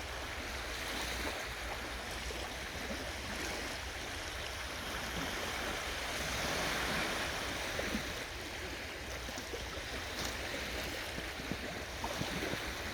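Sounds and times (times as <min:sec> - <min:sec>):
sea waves washing onto shore: 0:00.0 - 0:12.9.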